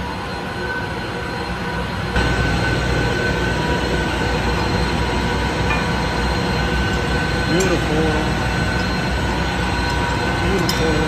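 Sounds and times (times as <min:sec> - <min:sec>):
machine rumble and whine: 0:00.0 - 0:11.0.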